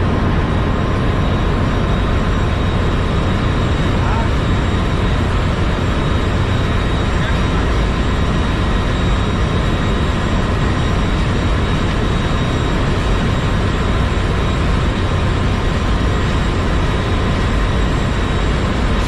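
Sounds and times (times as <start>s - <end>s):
engine room machinery drone: 0.0s - 19.0s
high whine: 0.0s - 19.0s.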